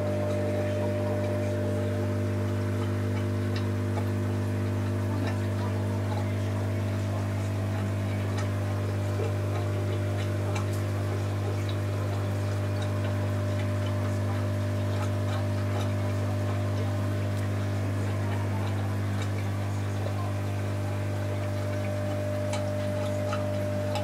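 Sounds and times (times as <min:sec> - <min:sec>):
aquarium pump hum: 0:00.0 - 0:24.0.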